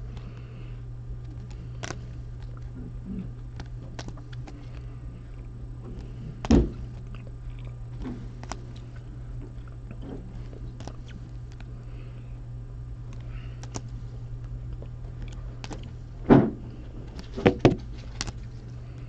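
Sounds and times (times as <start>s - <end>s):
steady low hum: 0.0s - 19.0s
trading cards clicking and rustling: 1.2s - 12.2s, 13.0s - 19.0s.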